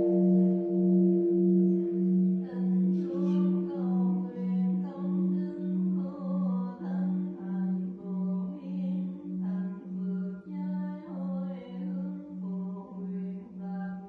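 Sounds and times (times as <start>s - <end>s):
temple bell humming: 0.0s - 14.0s.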